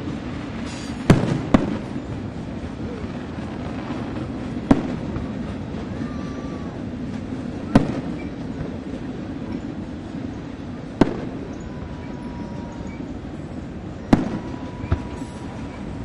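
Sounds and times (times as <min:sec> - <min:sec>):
firework shells bursting: 0:00.0 - 0:16.0
steady low rumble: 0:00.0 - 0:16.0.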